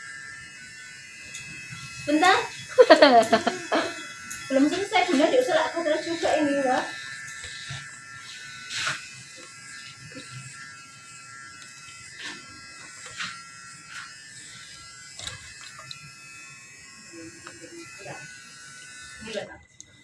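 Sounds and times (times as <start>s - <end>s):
electric hair clipper buzzing: 0.0s - 20.0s.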